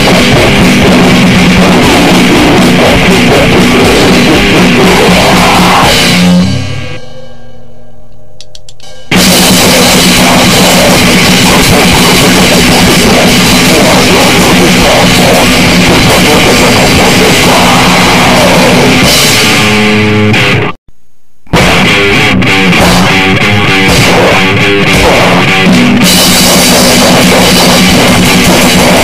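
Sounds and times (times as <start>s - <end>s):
distorted guitar and drums noise: 0.0s - 7.4s, 8.5s - 29.0s.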